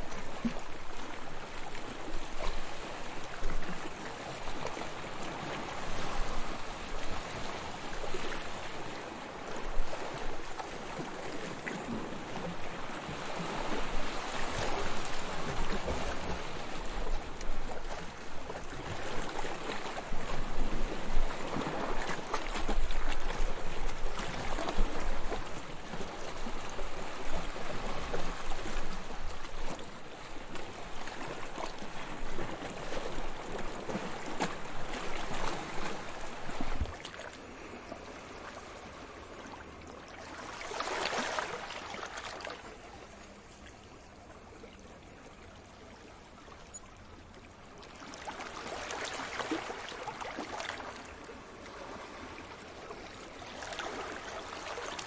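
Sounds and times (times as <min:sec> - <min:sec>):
ocean waves breaking: 0:00.0 - 0:43.0, 0:47.8 - 0:55.0.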